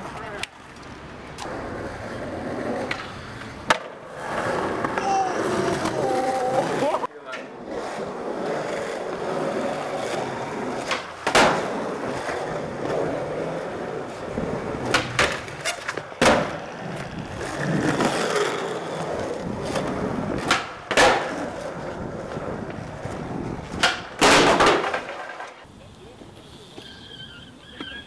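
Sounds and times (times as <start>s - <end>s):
skateboard clacks: 0.0s - 26.9s
skateboard wheels rolling on tiles: 0.0s - 28.0s.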